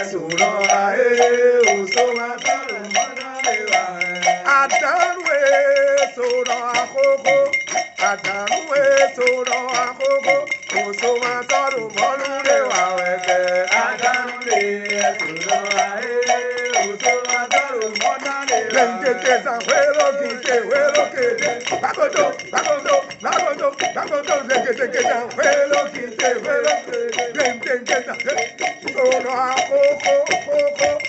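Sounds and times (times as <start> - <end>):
men singing a chant: 0.0 - 31.0
steady percussion beat: 0.0 - 31.0.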